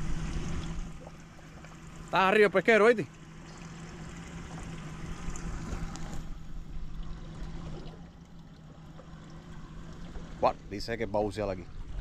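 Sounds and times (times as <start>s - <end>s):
steady low hum: 0.0s - 12.0s
water lapping against boat hull: 0.0s - 12.0s.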